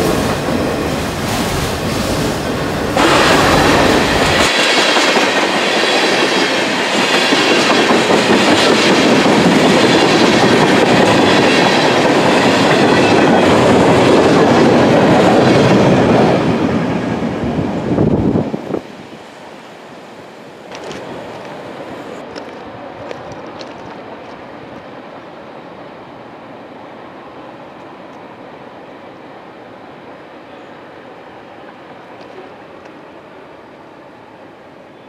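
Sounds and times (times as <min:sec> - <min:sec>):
freight train wheels on rails: 0:00.0 - 0:35.0.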